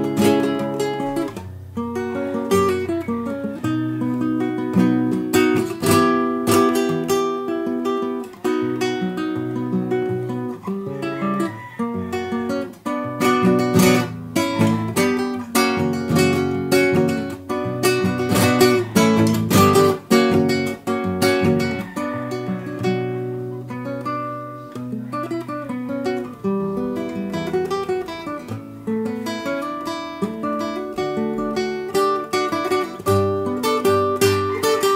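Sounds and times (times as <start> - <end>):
acoustic guitar strumming and picking: 0.0 - 34.9.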